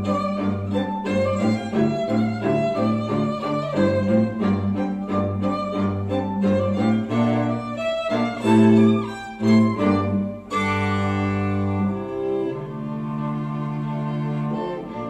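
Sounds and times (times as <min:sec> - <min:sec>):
cello holding long notes: 0:00.0 - 0:15.0
string quartet over loudspeakers: 0:00.0 - 0:15.0.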